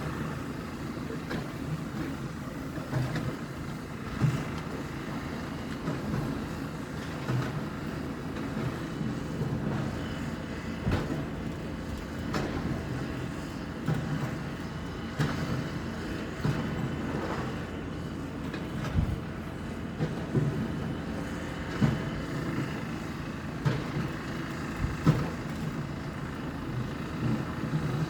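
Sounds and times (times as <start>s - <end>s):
demolition machinery rumbling: 0.0s - 28.0s.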